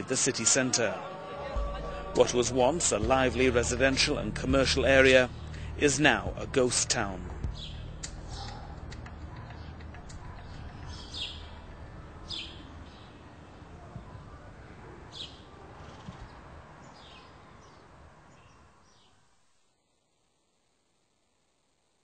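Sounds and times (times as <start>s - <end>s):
low background noise: 0.0s - 22.0s
birds chirping: 0.6s - 19.2s.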